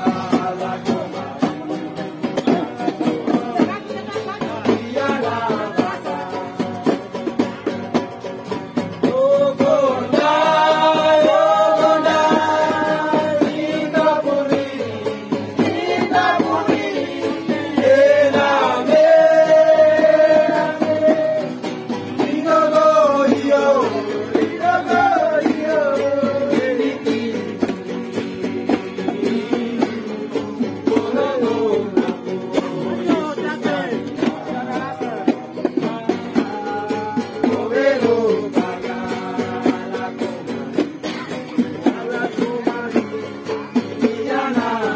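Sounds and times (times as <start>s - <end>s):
acoustic guitars: 0.0s - 44.9s
voices singing: 0.0s - 44.9s.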